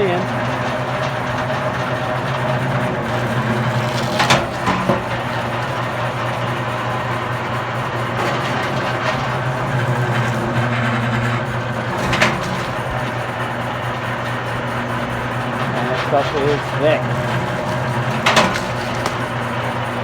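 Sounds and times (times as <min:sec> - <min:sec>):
wire stripping machine motor hum: 0:00.0 - 0:20.0.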